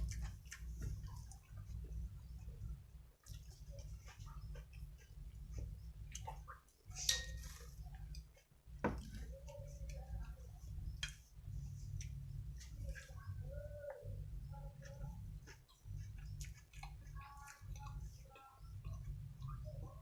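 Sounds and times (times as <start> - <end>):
chewing and mouth noises: 0.0 - 13.5, 14.1 - 20.0.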